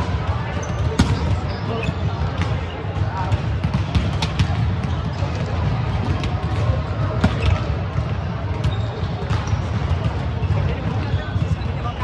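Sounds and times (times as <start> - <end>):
volleyball hits: 0.0 - 12.0.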